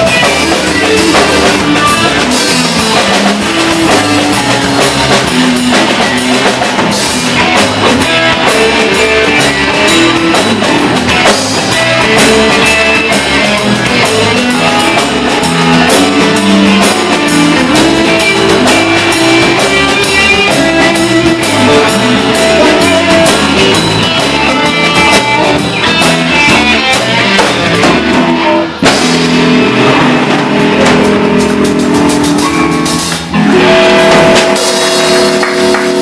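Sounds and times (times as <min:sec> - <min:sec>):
instrumental rock music: 0:00.0 - 0:36.0.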